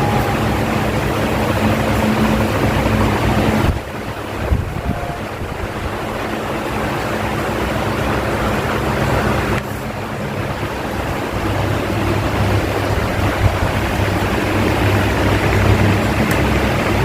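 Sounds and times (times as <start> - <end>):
electric fan running: 0.0 - 17.0.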